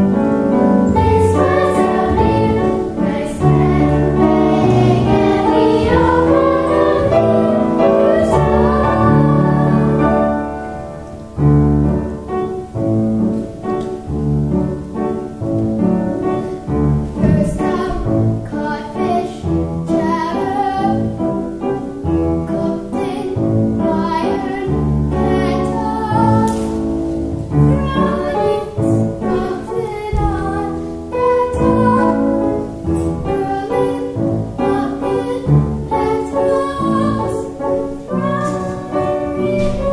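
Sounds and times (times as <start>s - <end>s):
children singing together: 0.0s - 11.3s, 16.0s - 39.9s
piano accompaniment: 0.0s - 39.9s.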